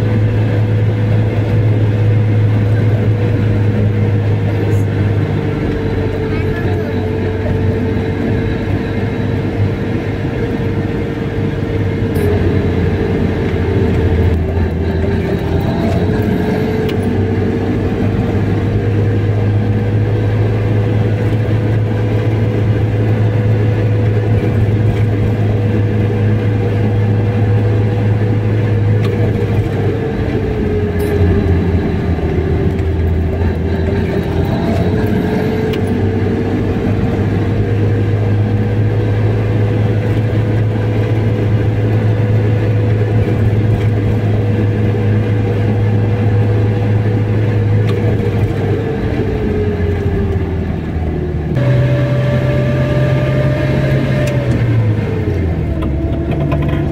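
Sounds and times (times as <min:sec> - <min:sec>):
car engine and road noise: 0:00.0 - 0:56.9
steady whine: 0:00.0 - 0:56.9.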